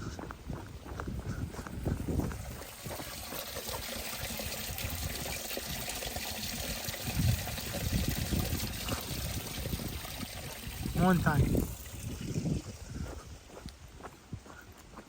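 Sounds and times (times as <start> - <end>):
water trickling and pattering: 1.0 - 13.7.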